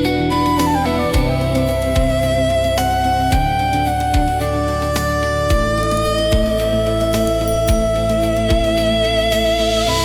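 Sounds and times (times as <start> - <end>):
music with slow low beat: 0.0 - 10.0.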